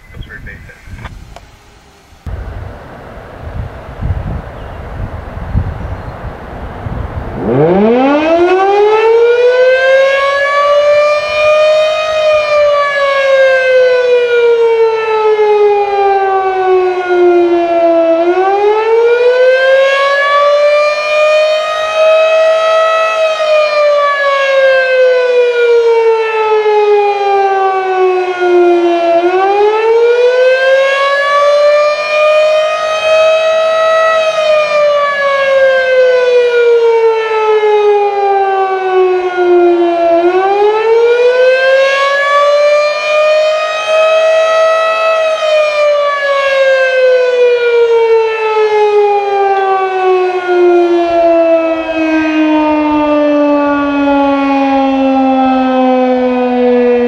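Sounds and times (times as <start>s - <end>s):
fire siren wailing: 2.2s - 57.0s.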